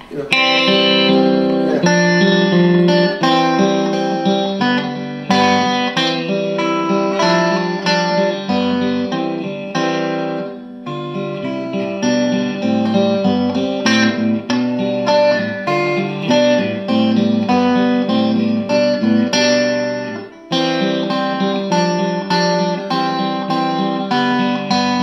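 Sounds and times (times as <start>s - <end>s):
electric guitar chords and notes: 0.0s - 25.0s.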